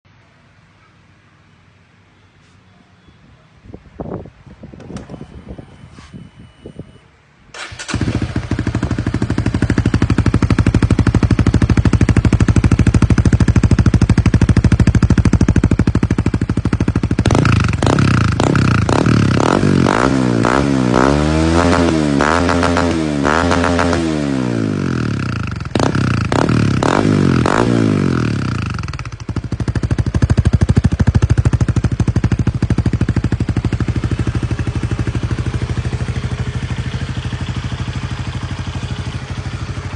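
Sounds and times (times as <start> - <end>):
motorcycle engine revving: 7.6 - 39.9.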